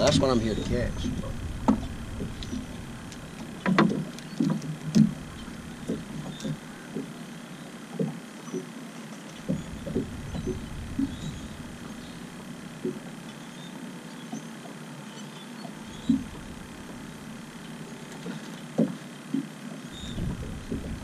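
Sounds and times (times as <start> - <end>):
water lapping against boat hull: 0.0 - 13.3, 15.3 - 21.0.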